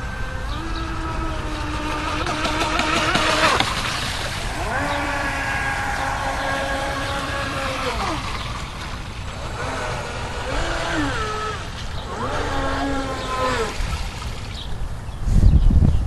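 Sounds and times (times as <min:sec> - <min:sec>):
electric motor whining: 0:00.0 - 0:14.8.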